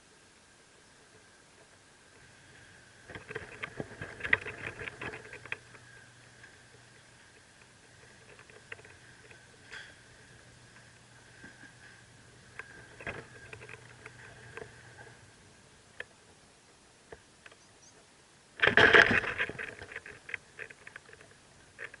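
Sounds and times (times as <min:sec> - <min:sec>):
birds rustling in nest: 0:01.2 - 0:16.1, 0:18.6 - 0:22.0.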